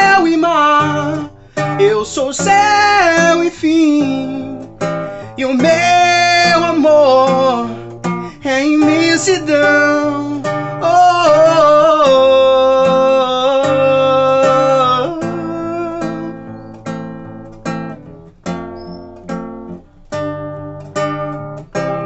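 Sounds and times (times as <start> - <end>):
acoustic guitar strummed chords: 0.0 - 22.0.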